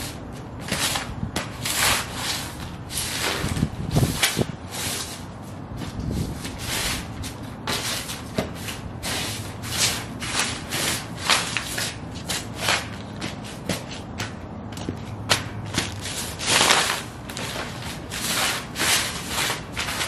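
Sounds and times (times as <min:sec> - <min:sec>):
boots stomping on crinkling paper: 0:00.0 - 0:20.0.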